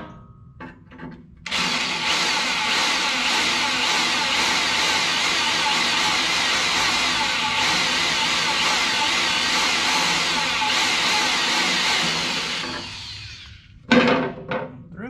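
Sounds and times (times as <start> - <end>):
electric drill boring steel: 1.5 - 13.7.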